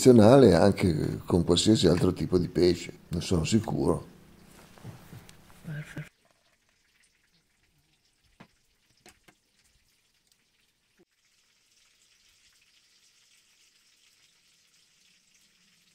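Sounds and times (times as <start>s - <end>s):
faint steady hiss: 0.0s - 15.9s.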